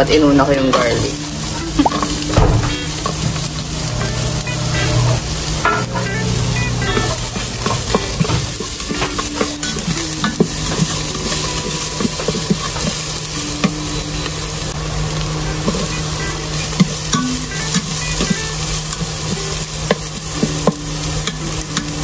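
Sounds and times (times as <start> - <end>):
garlic and onion sizzling in oil: 0.0 - 22.0.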